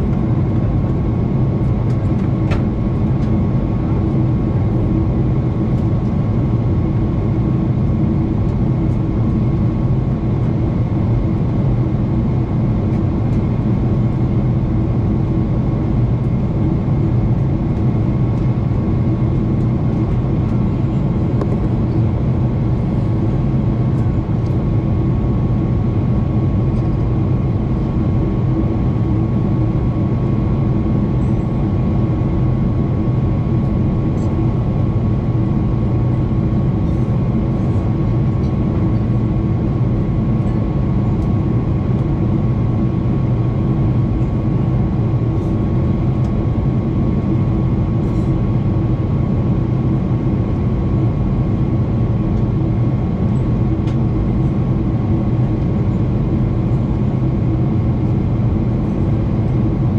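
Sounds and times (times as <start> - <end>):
airplane cabin engine drone: 0.0 - 59.9
steady whine: 0.0 - 59.9.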